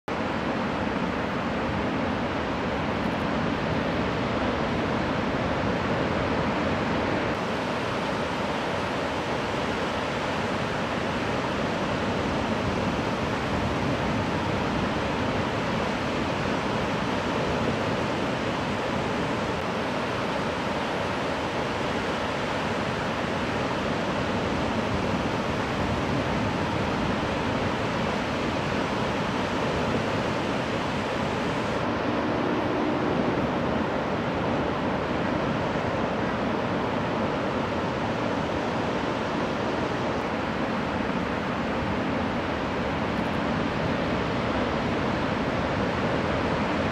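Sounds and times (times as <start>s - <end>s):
ocean waves breaking: 0.2s - 46.9s.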